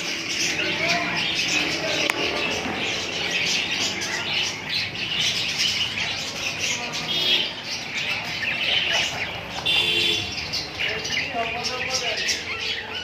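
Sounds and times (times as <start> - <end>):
parrots chattering and squawking: 0.0 - 13.0.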